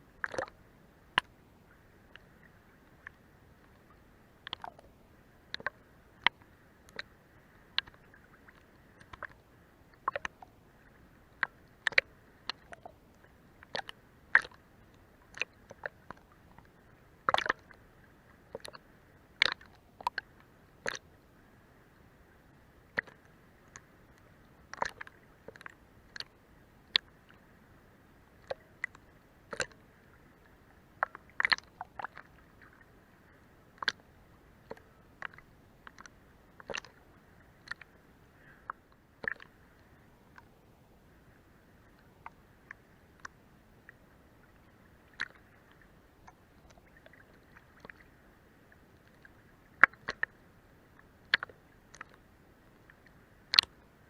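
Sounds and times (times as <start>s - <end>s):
faint steady hiss: 0.0s - 54.0s
water lapping against boat hull: 0.1s - 54.0s.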